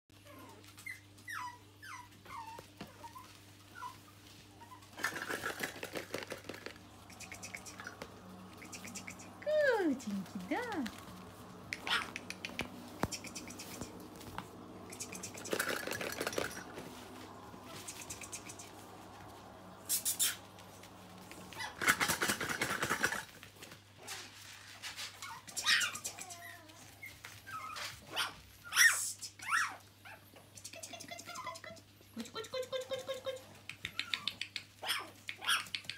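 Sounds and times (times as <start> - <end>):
puppies yipping and squealing: 0.2 - 23.4, 25.1 - 35.9.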